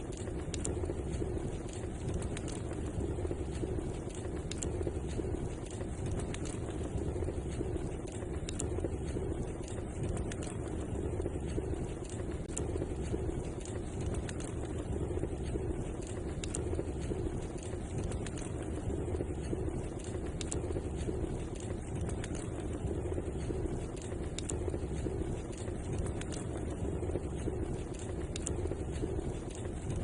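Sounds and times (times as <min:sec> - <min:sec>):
low rumble of fire: 0:00.0 - 0:30.0
wood fire crackling and popping: 0:00.0 - 0:30.0.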